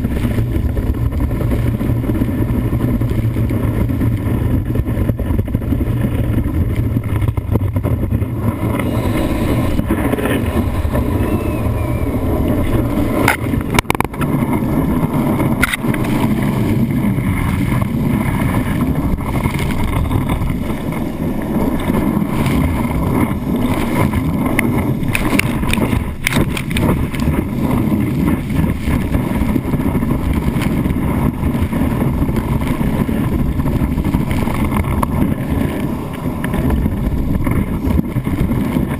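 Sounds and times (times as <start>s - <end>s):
rush of water: 0.0s - 38.9s
wind: 0.0s - 38.9s.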